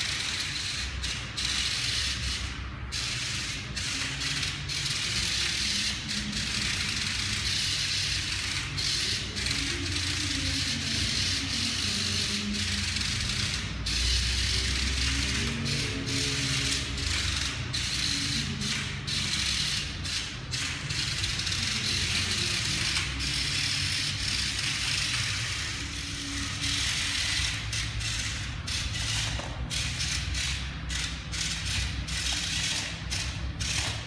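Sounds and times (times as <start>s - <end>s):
robot car motors whirring: 0.0s - 34.0s.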